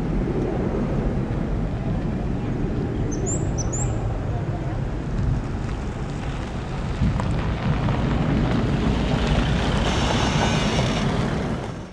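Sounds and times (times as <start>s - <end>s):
distant jet engine rumble: 0.0s - 11.9s.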